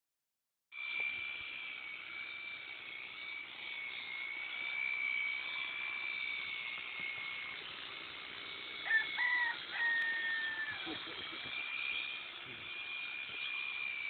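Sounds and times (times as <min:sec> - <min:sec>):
electric shears whining: 0:00.7 - 0:14.0.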